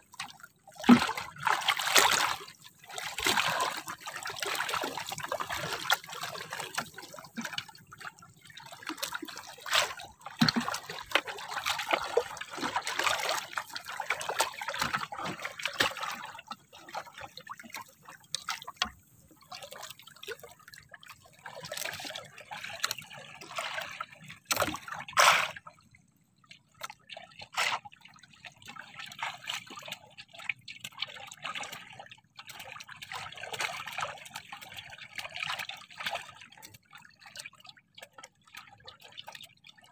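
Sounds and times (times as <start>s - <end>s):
water splashing against boat hull: 0.0s - 39.9s.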